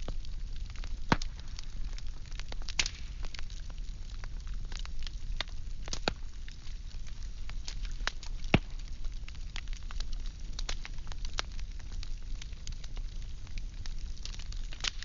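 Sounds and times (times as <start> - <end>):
firewood crackling and popping: 0.0 - 15.0
low rumble of fire: 0.0 - 15.0.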